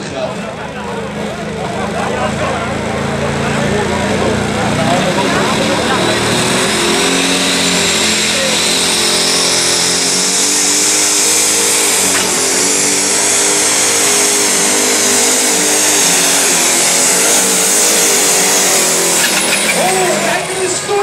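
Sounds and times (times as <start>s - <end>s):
tractor engine at high revs: 0.0s - 21.0s.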